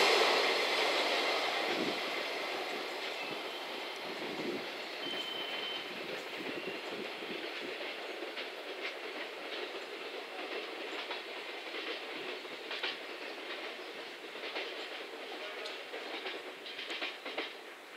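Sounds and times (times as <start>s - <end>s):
freight train rumbling: 0.0s - 17.9s
wheels clicking over rail joints: 1.3s - 17.9s.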